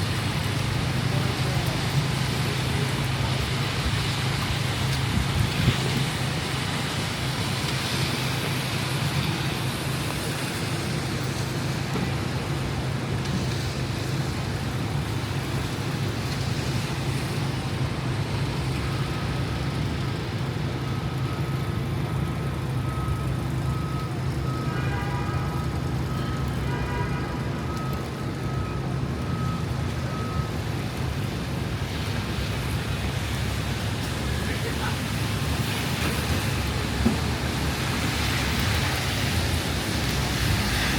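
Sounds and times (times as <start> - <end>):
low traffic rumble: 0.0 - 40.9
rain hissing: 0.0 - 40.9
tyres on wet road: 0.0 - 40.9.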